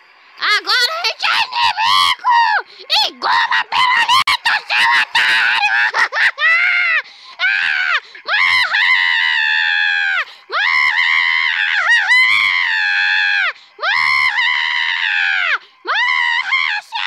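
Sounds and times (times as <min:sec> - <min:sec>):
man screaming in agony: 0:01.3 - 0:17.0.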